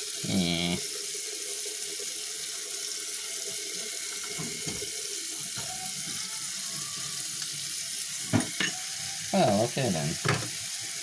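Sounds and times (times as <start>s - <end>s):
water running from sink tap: 0.0s - 11.0s.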